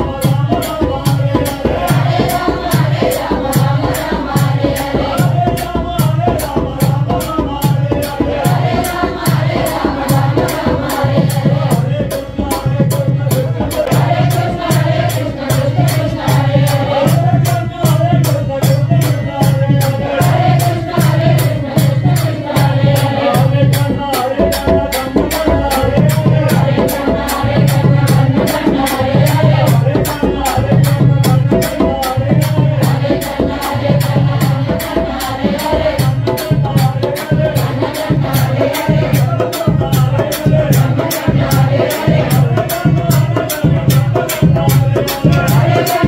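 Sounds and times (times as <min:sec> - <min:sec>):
steady drum beat: 0:00.0 - 0:46.0.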